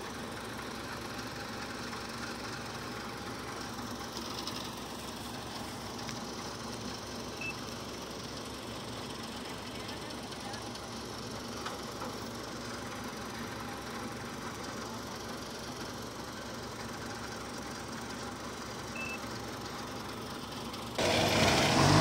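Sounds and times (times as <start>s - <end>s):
diesel engines idling: 0.0s - 22.0s.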